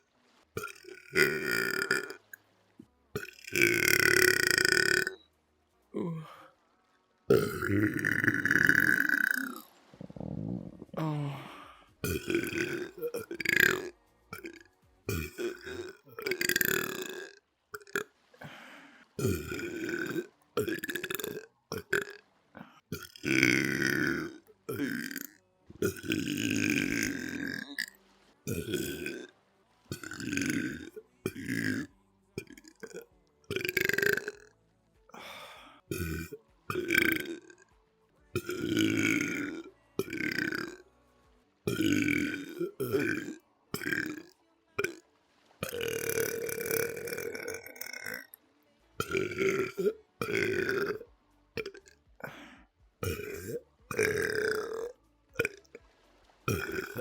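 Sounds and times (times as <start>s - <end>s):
person belching: 0.6s - 2.4s, 3.2s - 5.2s, 6.0s - 6.5s, 7.3s - 29.3s, 29.9s - 34.5s, 35.1s - 37.7s, 38.3s - 40.8s, 41.7s - 45.0s, 45.6s - 48.4s, 49.0s - 55.8s, 56.5s - 57.0s.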